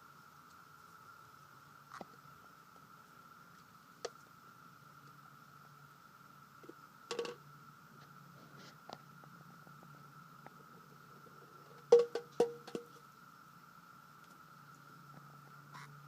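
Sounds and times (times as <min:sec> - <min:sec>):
cicada chorus drone: 0:00.0 - 0:16.0.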